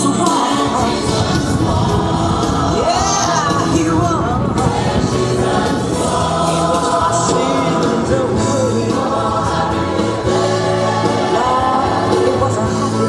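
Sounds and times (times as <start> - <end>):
choir singing gospel music: 0.0 - 13.0.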